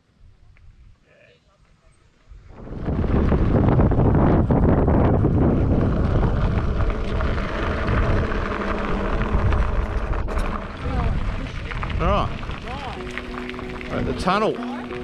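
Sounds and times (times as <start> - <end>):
wind buffeting microphone: 2.2 - 15.0
tyres rolling on gravel: 2.5 - 15.0.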